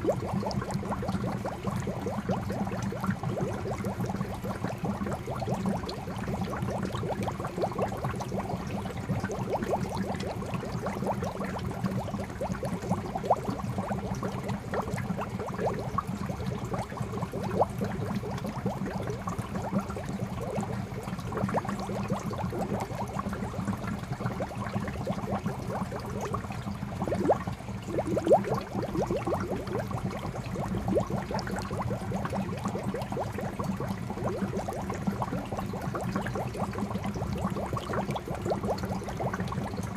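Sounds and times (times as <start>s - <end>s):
water pouring into pond: 0.0s - 39.9s.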